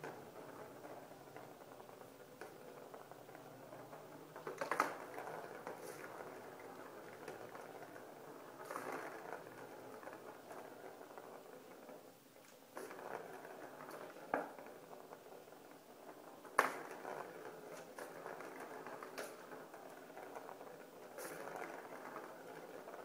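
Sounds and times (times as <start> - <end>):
ball rattling around plastic track: 0.0 - 23.0.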